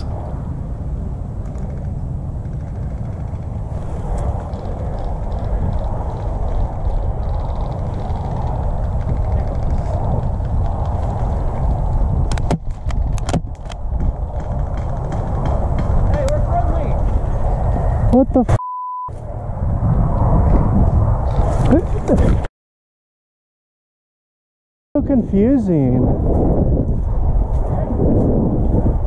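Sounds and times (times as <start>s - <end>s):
wind buffeting a microphone: 0.0s - 22.5s, 25.0s - 29.0s.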